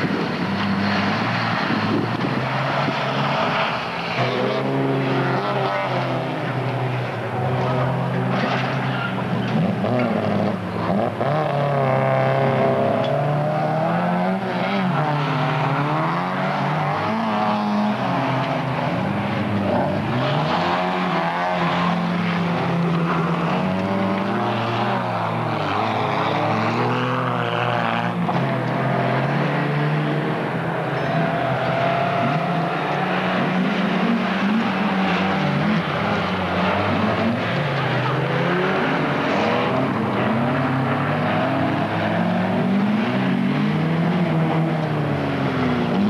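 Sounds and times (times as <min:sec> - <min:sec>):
race car engine running hard: 0:00.0 - 0:46.0.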